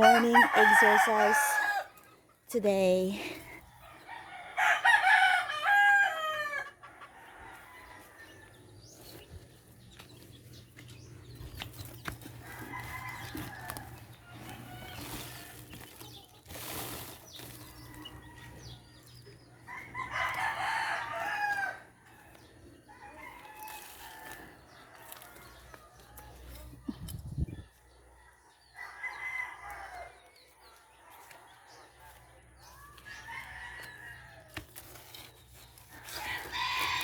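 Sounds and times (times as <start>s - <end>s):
roosters crowing: 0.0s - 2.1s, 3.4s - 9.2s, 11.3s - 26.9s, 27.9s - 37.0s.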